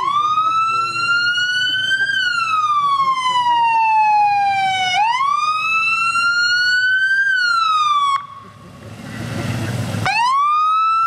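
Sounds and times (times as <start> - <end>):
electronic wail siren: 0.0 - 8.5, 10.0 - 11.0
low vehicle rumble: 0.0 - 11.0.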